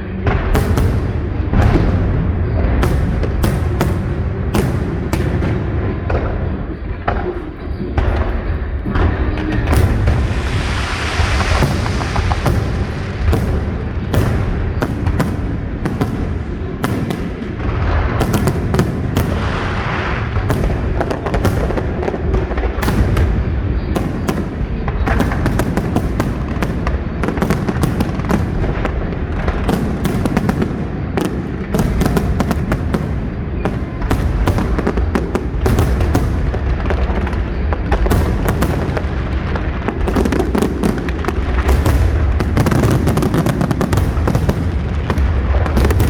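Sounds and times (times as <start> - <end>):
deep rumble of booms: 0.0 - 46.0
fireworks bangs and crackles: 0.0 - 46.0.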